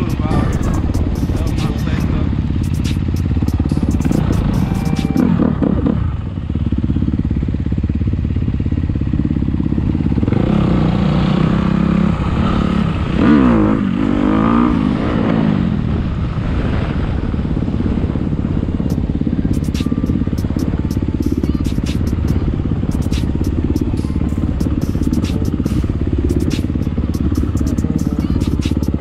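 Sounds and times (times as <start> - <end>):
dirt bike engine revving: 0.0 - 7.1, 8.8 - 17.1, 17.9 - 29.0.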